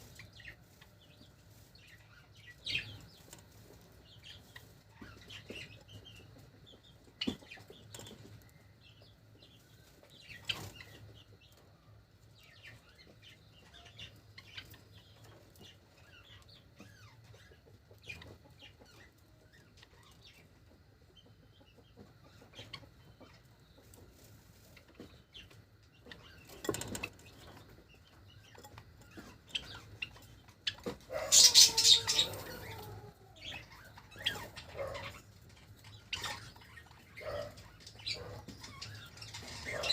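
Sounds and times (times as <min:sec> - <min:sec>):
sparrows faint chirps: 0:00.0 - 0:39.9.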